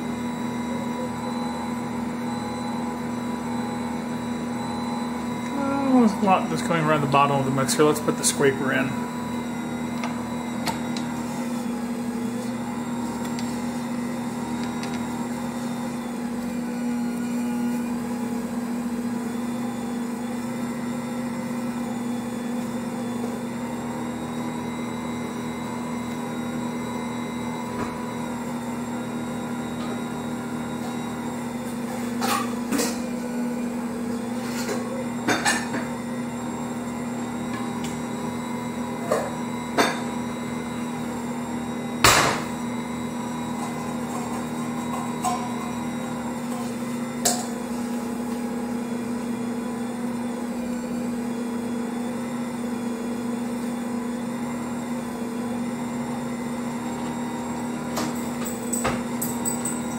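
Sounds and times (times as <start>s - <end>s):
mixer motor hum: 0.0s - 59.9s.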